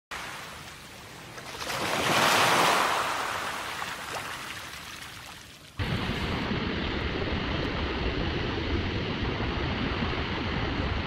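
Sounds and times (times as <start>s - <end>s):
rush of surf: 0.1s - 11.0s
sea wave surging in: 0.1s - 11.0s.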